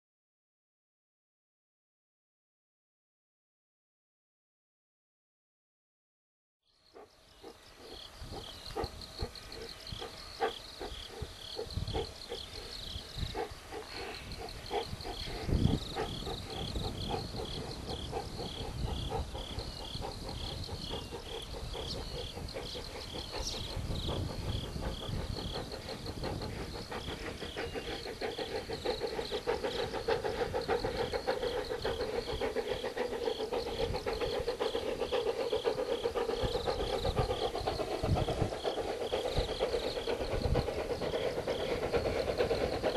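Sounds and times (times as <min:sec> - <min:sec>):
hiss of steam: 0:07.0 - 0:42.9
steam locomotive exhaust beats: 0:07.0 - 0:42.9.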